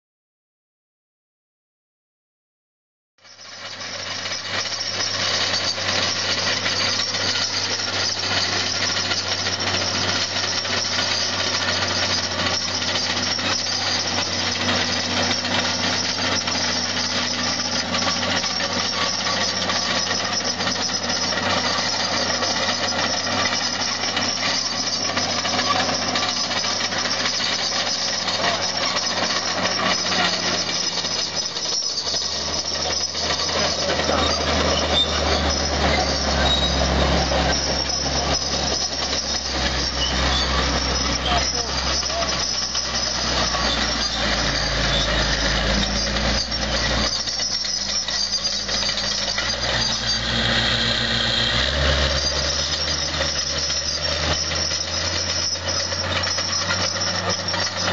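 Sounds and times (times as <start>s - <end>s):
diesel engine under load: 3.2s - 57.9s
steel tracks clattering: 3.6s - 57.9s.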